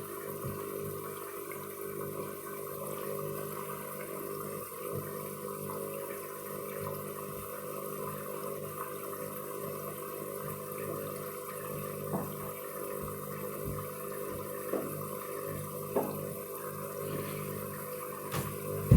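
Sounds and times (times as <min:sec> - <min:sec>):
water rushing in washing machine: 0:00.0 - 0:18.9.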